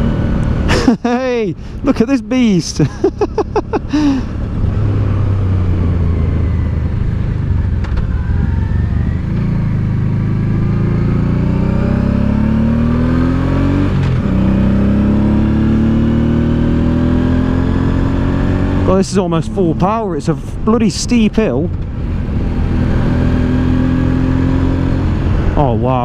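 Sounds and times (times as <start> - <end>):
motorcycle engine revving: 0.0 - 1.4, 3.1 - 20.8, 21.7 - 26.0.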